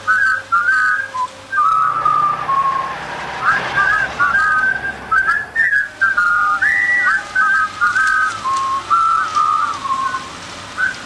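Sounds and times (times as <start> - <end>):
person whistling a tune: 0.0 - 11.0.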